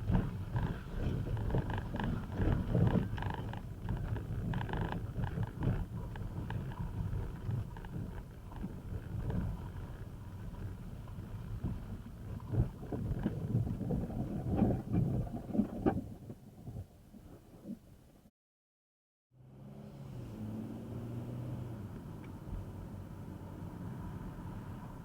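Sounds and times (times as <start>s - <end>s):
car engine and road rumble: 0.0s - 16.0s, 19.4s - 25.0s.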